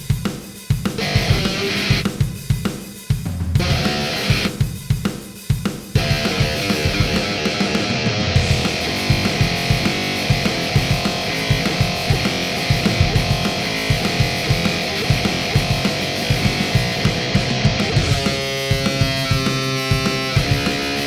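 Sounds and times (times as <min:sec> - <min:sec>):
fast drum beat: 0:00.0 - 0:21.0
distorted guitar-like lead: 0:01.0 - 0:02.3, 0:03.6 - 0:04.7, 0:06.0 - 0:21.0.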